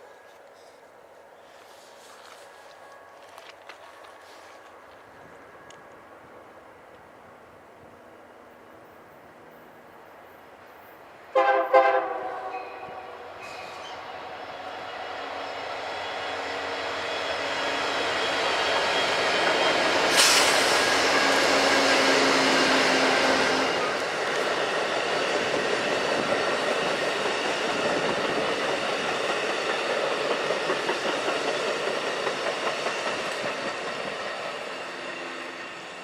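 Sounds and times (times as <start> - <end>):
diesel locomotive engine drone: 0.0 - 36.0.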